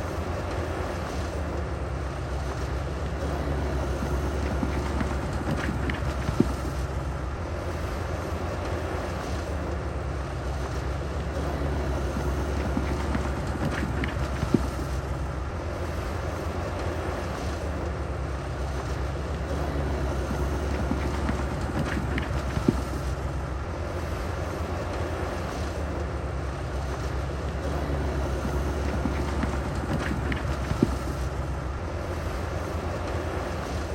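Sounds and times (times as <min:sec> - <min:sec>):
heavy diesel machinery running: 0:00.0 - 0:33.9.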